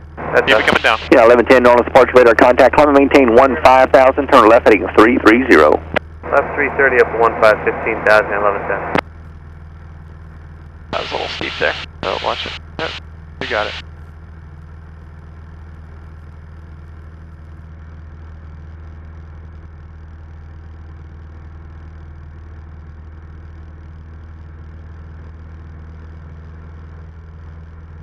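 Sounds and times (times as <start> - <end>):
airplane engine droning in cabin: 0.0 - 28.0.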